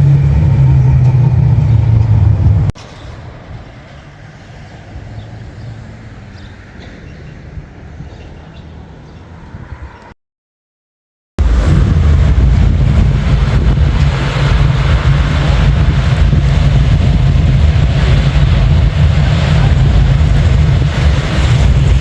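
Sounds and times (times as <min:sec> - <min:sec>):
vehicle engine rumbling: 0:00.0 - 0:10.0, 0:11.4 - 0:22.0.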